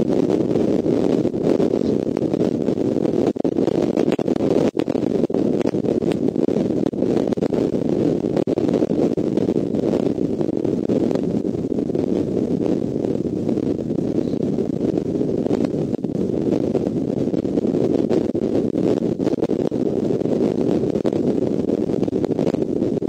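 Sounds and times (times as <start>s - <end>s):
wind rushing on microphone: 0.0s - 23.0s.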